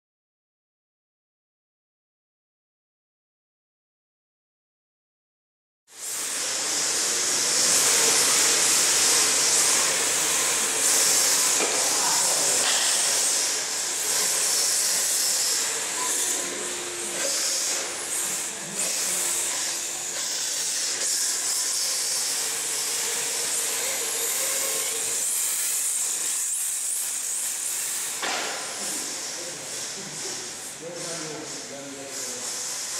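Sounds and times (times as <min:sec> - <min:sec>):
drift tyres scrubbing hiss: 0:06.0 - 0:32.9.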